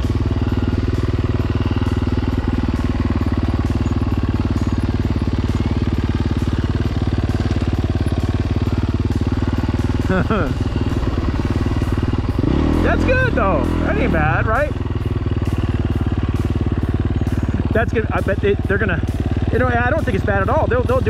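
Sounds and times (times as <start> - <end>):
dirt bike engine idling: 0.0 - 21.0.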